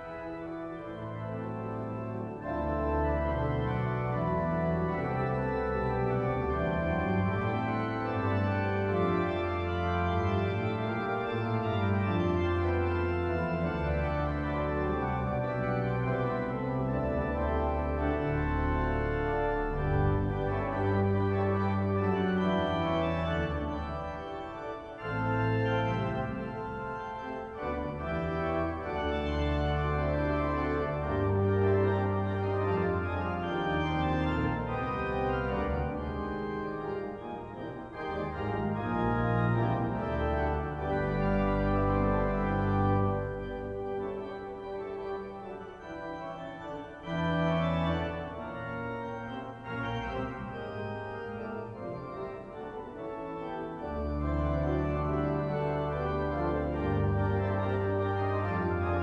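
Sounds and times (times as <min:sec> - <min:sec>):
pipe organ playing chords: 0:00.0 - 0:59.0.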